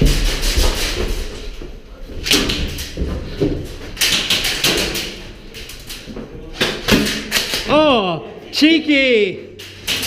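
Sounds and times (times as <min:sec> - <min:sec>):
knocks echoing in metal corridor: 0:00.0 - 0:08.4.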